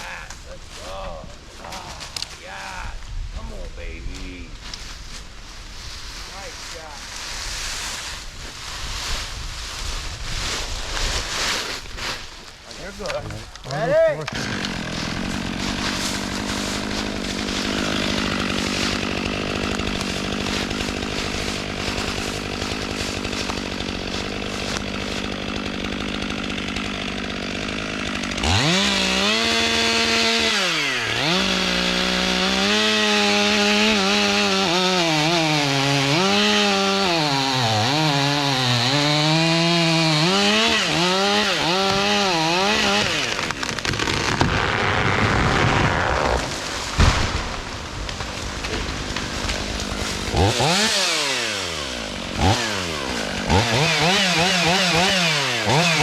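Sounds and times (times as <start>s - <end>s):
chainsaw cutting wood: 10.2s - 56.0s.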